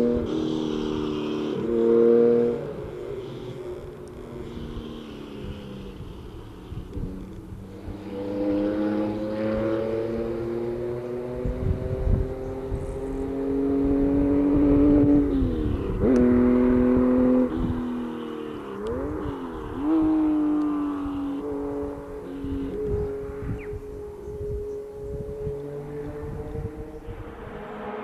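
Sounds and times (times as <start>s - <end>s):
car engine revving: 0.0s - 24.0s, 25.0s - 28.0s.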